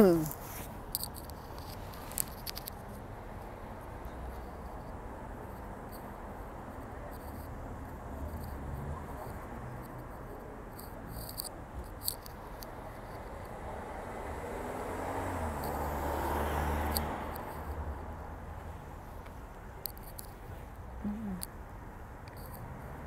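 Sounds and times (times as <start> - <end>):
car engines and tyres rumbling: 0.0 - 23.0.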